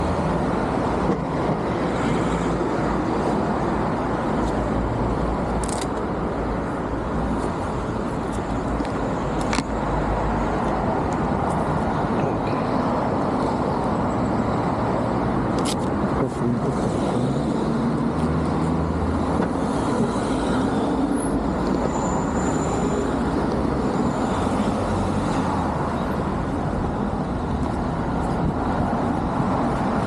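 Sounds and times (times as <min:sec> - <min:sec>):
wind and road rush: 0:00.0 - 0:30.0.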